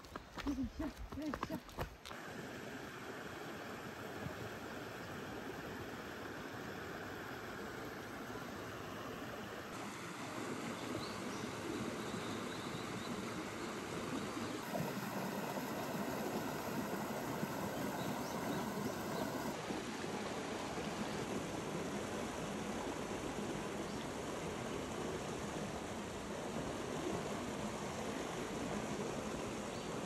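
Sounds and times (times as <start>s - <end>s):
stream water flowing: 2.0s - 30.0s.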